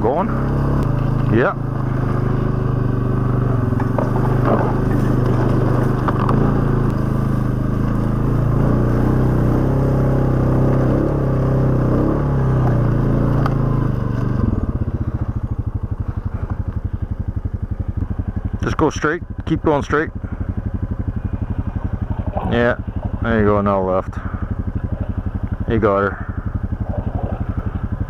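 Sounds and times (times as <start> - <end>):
atv engine running under load: 0.0 - 28.0
vehicle moving through grass: 0.0 - 28.0.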